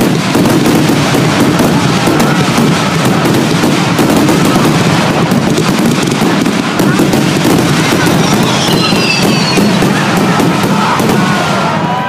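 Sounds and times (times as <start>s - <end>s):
fireworks barrage: 0.0s - 12.0s.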